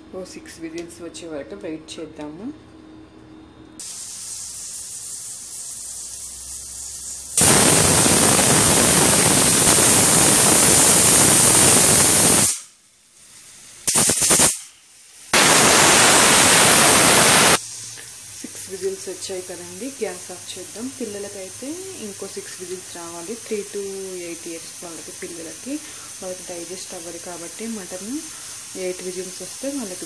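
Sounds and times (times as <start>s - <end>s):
pressure cooker sputtering: 3.8s - 12.7s, 13.4s - 30.0s
pressure cooker steam hissing: 3.8s - 30.0s.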